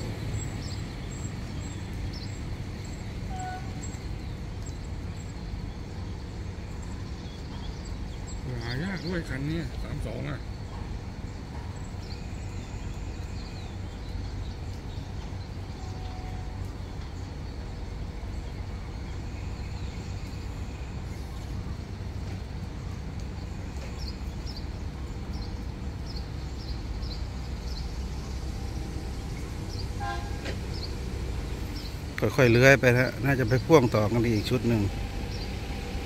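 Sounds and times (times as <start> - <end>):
birds chirping: 0.0 - 36.0
diesel vehicles rumbling: 0.0 - 36.0.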